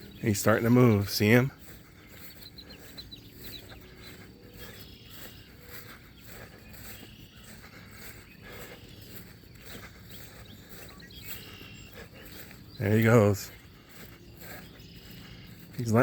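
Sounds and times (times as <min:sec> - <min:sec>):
faint insects chirping: 0:00.0 - 0:16.0
soft footsteps: 0:00.0 - 0:16.0.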